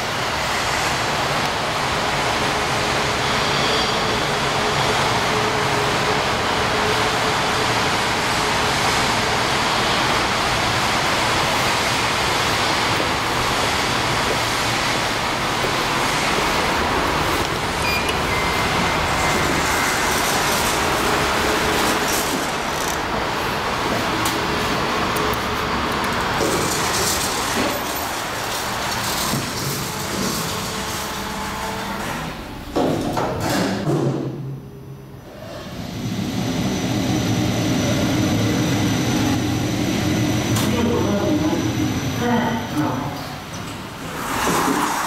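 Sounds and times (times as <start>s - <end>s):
elevator rushing hum: 4.3s - 32.7s, 35.2s - 45.0s.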